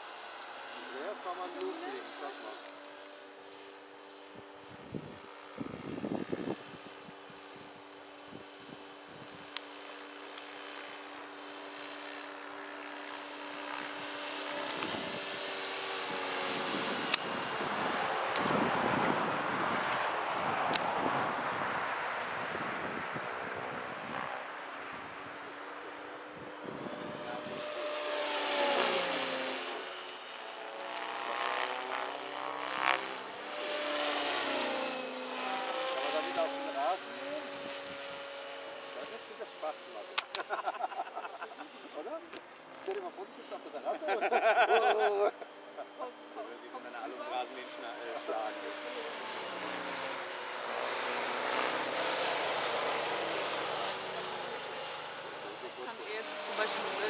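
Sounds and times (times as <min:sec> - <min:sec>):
model helicopter rotor whine: 0:00.0 - 0:57.0.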